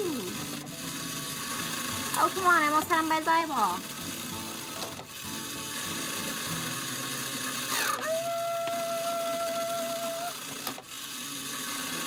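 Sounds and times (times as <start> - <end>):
claw machine motor whirring: 0.0 - 12.0.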